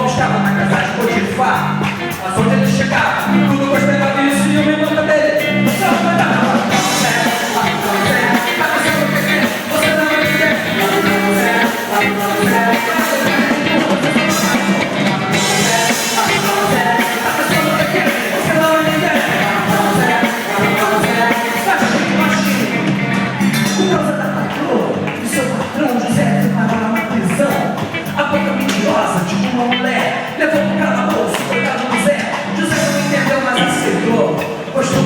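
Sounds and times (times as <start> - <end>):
voices singing: 0.0 - 35.0
worship band playing: 0.0 - 35.0.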